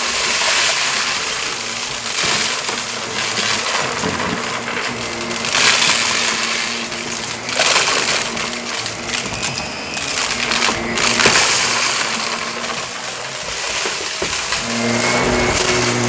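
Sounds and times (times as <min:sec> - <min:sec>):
debris crackling into vacuum: 0:00.0 - 0:16.0
vacuum cleaner motor humming: 0:00.0 - 0:16.0.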